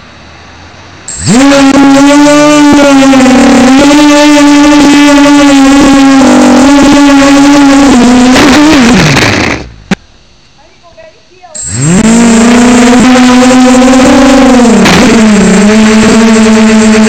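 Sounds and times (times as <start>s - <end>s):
model aircraft motor drone: 1.1s - 9.9s, 11.5s - 17.0s.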